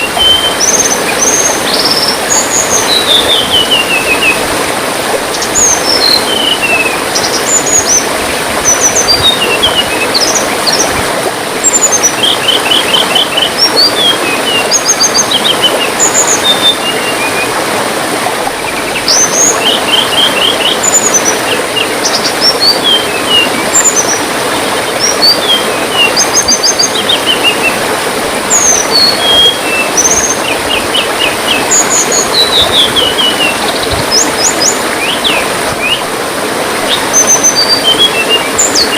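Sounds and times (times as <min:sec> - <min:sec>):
songbirds chirping and trilling: 0:00.0 - 0:04.6, 0:05.2 - 0:17.6, 0:18.3 - 0:27.9, 0:28.5 - 0:36.1
trickling water: 0:00.0 - 0:38.9.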